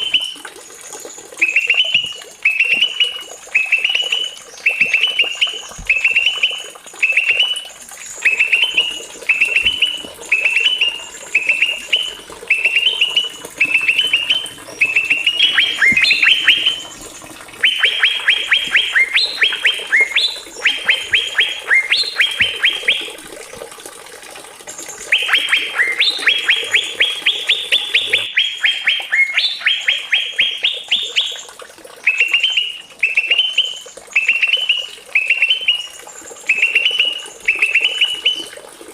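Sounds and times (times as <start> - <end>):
songbird chattering and trilling: 1.4 - 23.2, 24.9 - 31.4, 32.0 - 38.5.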